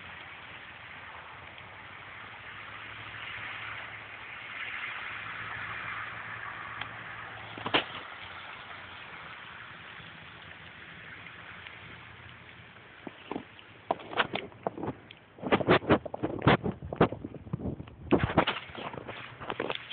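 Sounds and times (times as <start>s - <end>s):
car passing on snowy road: 0.0s - 16.5s.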